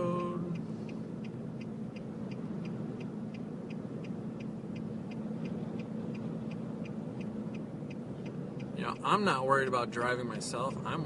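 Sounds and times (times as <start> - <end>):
hazard flasher relay ticking: 0.0 - 11.0
road noise inside car: 0.0 - 11.0.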